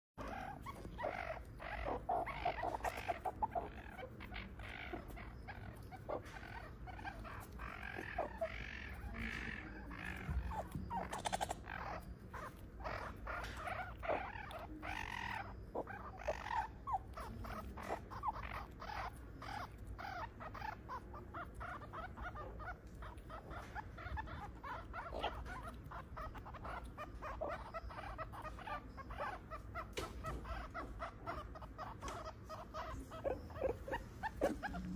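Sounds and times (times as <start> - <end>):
meerkats chirping: 0.2 - 34.9.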